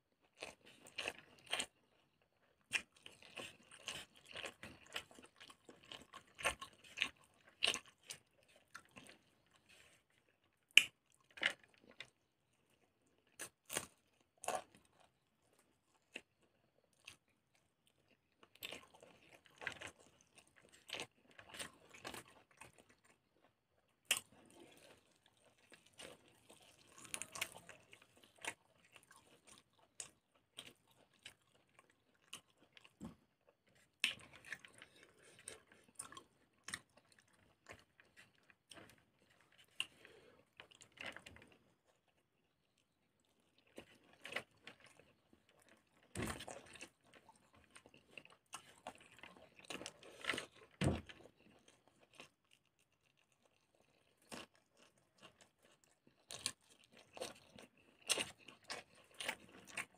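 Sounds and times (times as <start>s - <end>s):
close-up chewing: 0.2s - 59.9s.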